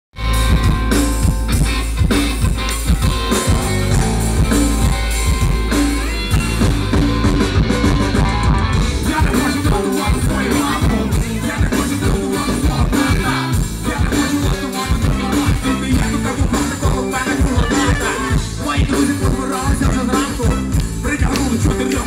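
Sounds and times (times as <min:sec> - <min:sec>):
drum kit beat: 0:00.2 - 0:22.0
electric guitar: 0:00.2 - 0:22.0.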